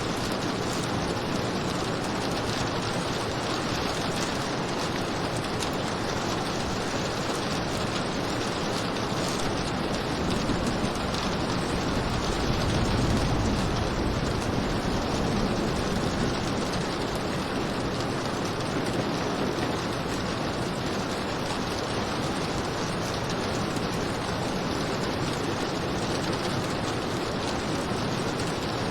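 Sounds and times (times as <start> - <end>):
heavy rain hissing and pattering: 0.0 - 28.9.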